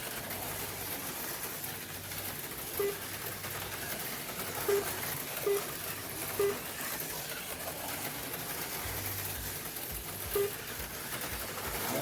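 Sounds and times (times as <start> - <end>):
slot cars whirring: 0.0 - 12.0.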